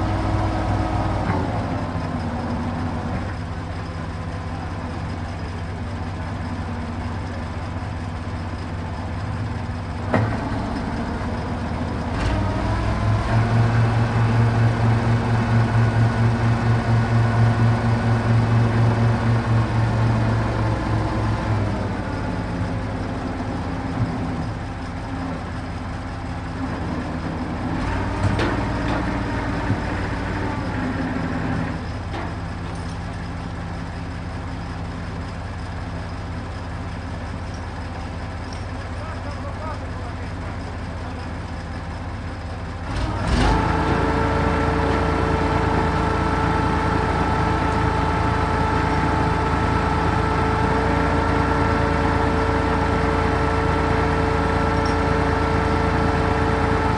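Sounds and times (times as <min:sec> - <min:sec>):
crane diesel engine running: 0:00.0 - 0:56.9.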